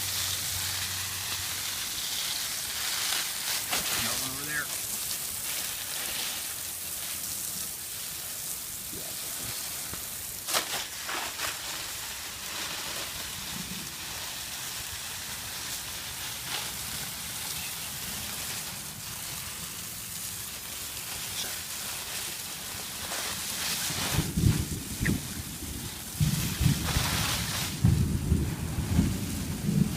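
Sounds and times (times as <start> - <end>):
fire crackling: 0.0 - 29.9
garden hose spraying water: 0.0 - 29.9.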